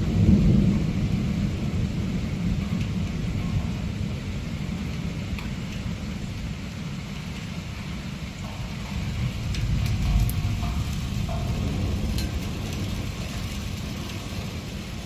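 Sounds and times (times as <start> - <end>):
rain: 0.0 - 15.0
rolling thunder: 0.0 - 15.0.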